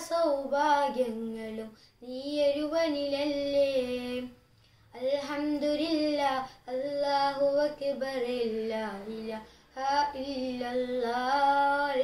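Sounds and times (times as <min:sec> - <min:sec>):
boy singing unaccompanied: 0:00.0 - 0:12.0.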